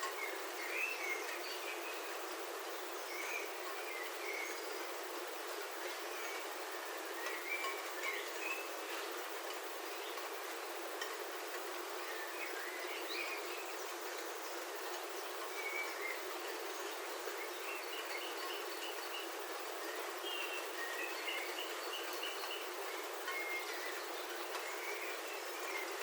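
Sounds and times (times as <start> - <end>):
birds chirping: 0.0 - 26.0
rain on a roof: 0.0 - 26.0.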